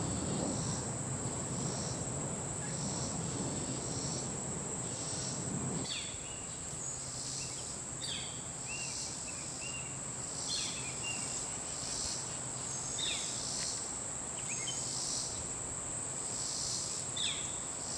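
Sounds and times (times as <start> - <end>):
insect chorus: 0.0 - 17.9.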